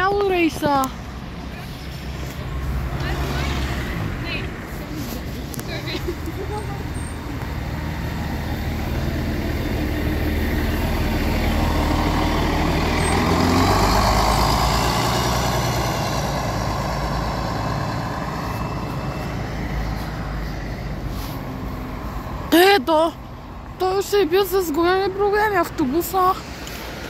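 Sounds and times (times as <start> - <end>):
bus engine driving past: 0.0 - 27.0.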